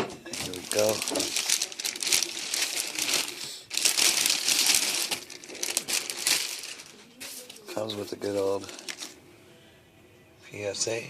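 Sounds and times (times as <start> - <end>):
packaging crinkling: 0.3 - 9.2.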